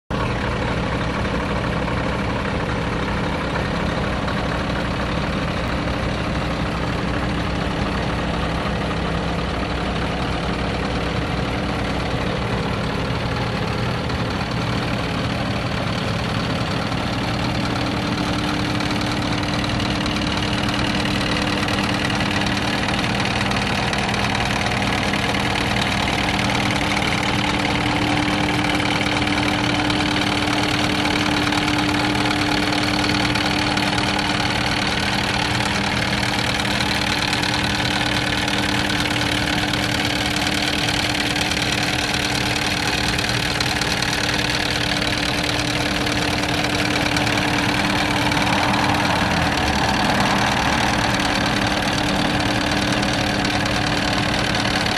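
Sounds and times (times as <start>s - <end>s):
diesel truck engine idling: 0.1s - 54.9s.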